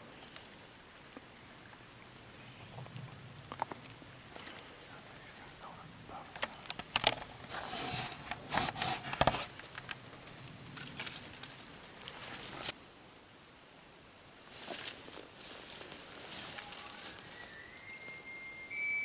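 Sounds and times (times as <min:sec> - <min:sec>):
rustling: 0:00.0 - 0:12.8, 0:14.3 - 0:18.6.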